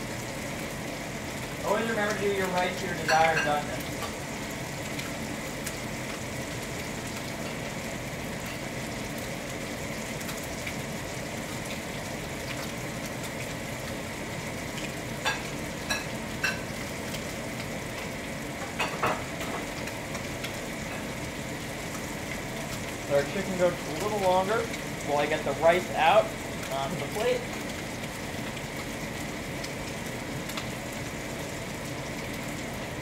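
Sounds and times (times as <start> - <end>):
chicken sizzling in frying pan: 0.0 - 33.0.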